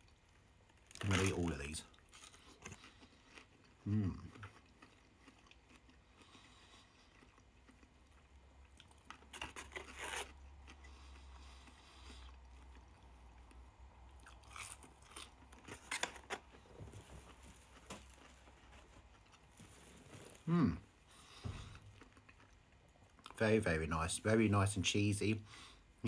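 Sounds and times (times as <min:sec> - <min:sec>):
quiet chewing: 0:00.0 - 0:23.4.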